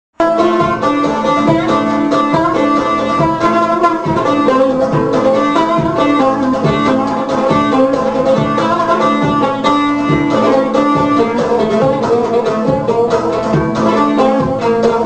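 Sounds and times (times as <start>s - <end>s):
plucked string melody: 0.2s - 15.0s
steady held tones: 0.2s - 15.0s.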